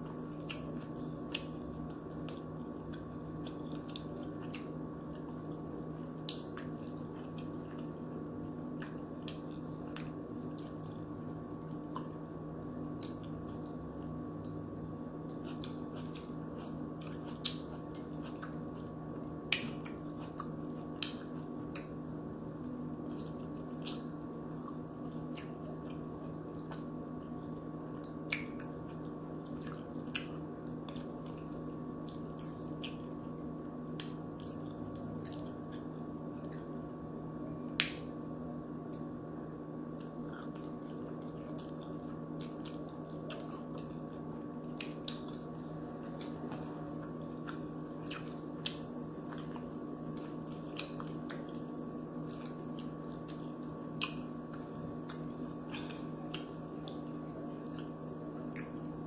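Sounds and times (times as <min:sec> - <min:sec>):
steady low hum: 0:00.0 - 0:59.0
chewing and wet mouth clicks: 0:00.4 - 0:11.0, 0:11.6 - 0:12.2, 0:12.9 - 0:14.6, 0:15.3 - 0:18.9, 0:19.5 - 0:22.0, 0:22.6 - 0:33.2, 0:33.8 - 0:36.8, 0:40.0 - 0:58.9.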